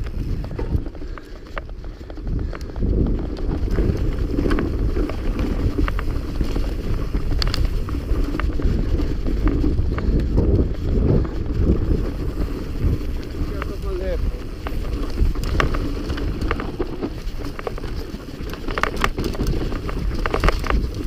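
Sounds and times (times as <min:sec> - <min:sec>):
bike rattling and clicking: 0:00.0 - 0:21.0
wind buffeting microphone: 0:00.0 - 0:21.0.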